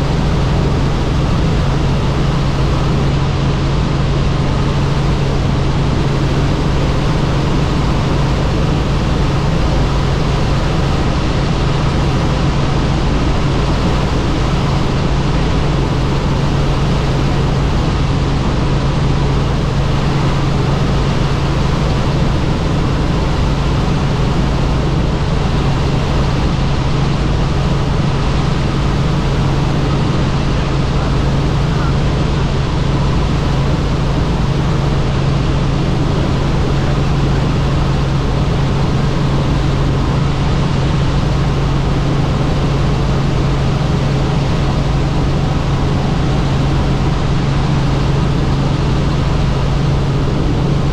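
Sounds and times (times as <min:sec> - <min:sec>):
helicopter engine and rotor noise: 0:00.0 - 0:50.9.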